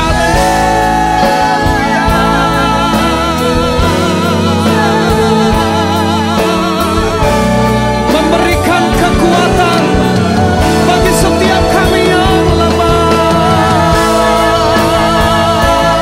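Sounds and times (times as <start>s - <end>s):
singers holding long notes: 0.0s - 16.0s
worship band playing: 0.0s - 16.0s.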